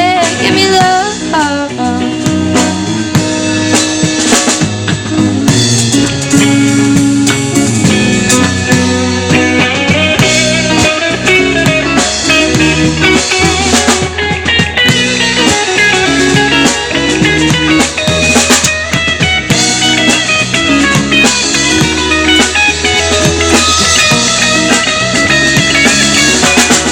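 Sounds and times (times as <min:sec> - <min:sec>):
drum kit: 0:00.0 - 0:26.9
guitar: 0:00.0 - 0:26.9.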